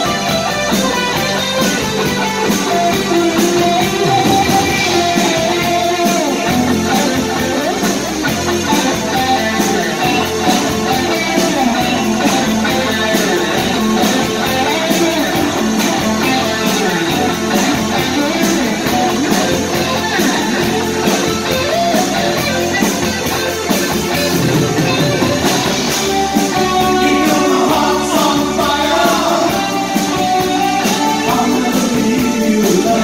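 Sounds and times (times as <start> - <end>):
bass: 0.0 - 33.0
electric guitars: 0.0 - 33.0
keyboard: 0.0 - 33.0
steady drum beat: 0.0 - 33.0.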